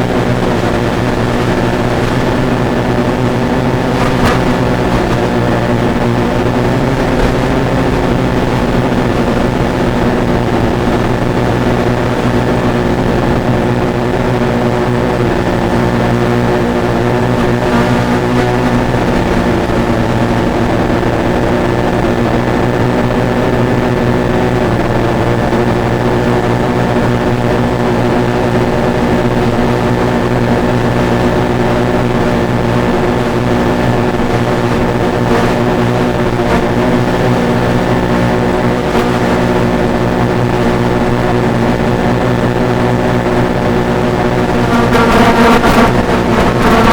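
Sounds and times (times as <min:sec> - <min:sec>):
drone motors humming: 0:00.0 - 0:46.9.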